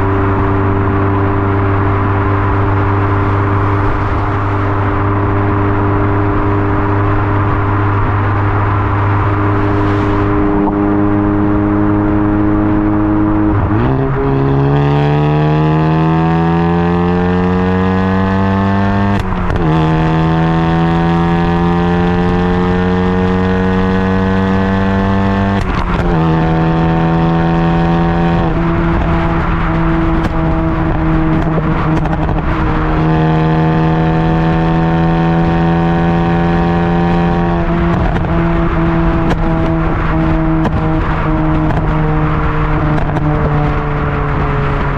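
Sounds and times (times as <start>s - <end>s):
car exhaust under hard acceleration: 0.0s - 44.9s.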